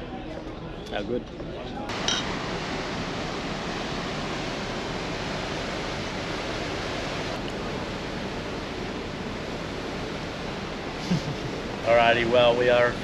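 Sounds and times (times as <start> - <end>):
sea rushing: 1.9 - 13.0.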